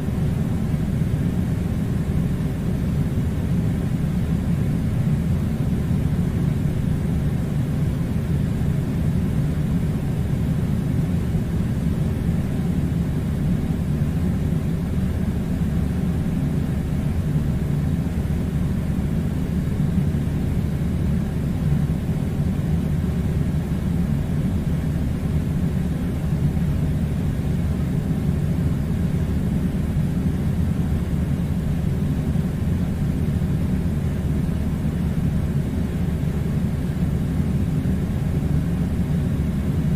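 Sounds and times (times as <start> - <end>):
air conditioner rumble: 0.0 - 39.9.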